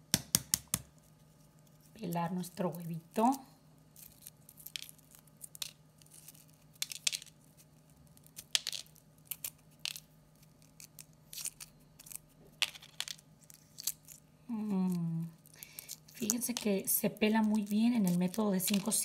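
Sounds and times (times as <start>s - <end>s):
faint low hum: 0.0s - 19.0s
eggshell crackling: 0.4s - 19.0s.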